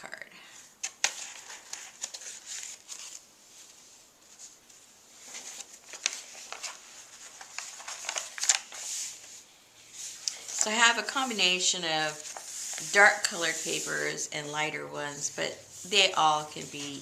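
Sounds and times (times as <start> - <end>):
paper pages turning: 0.8 - 14.3, 15.7 - 17.0.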